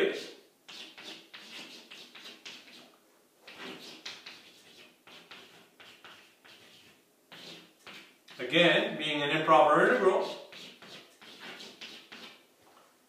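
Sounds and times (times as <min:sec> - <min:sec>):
chalk scratching on chalkboard: 0:00.0 - 0:02.9, 0:03.5 - 0:08.5, 0:09.9 - 0:12.4.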